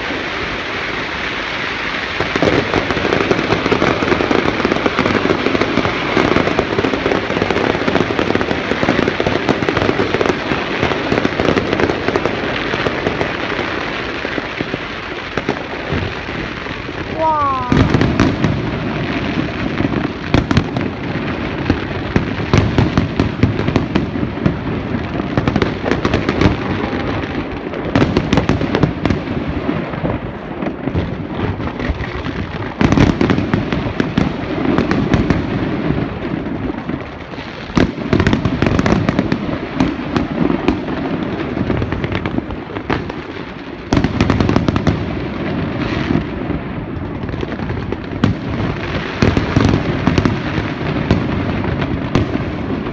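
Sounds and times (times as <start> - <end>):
fireworks booms: 0.0 - 52.9
fireworks crackling and banging: 0.0 - 52.9.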